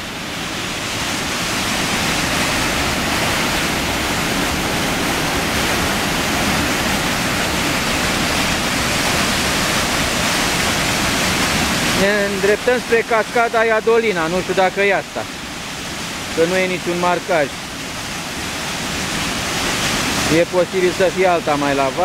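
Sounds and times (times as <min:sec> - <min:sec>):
river water rushing over boulders: 0:00.0 - 0:22.0.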